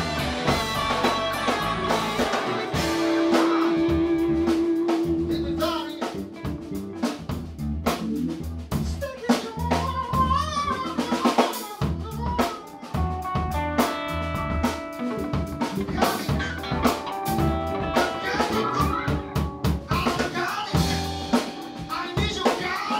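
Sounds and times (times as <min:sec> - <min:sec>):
electric bass line: 0:00.0 - 0:11.2, 0:11.8 - 0:22.8
rock band playing live: 0:00.0 - 0:22.9.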